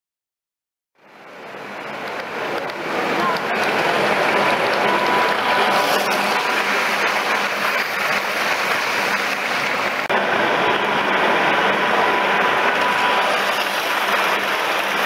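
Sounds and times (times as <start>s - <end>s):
faint steady whine: 1.0s - 15.0s
model train wheels rumbling on rail: 1.0s - 15.0s
hall background noise: 1.1s - 15.0s.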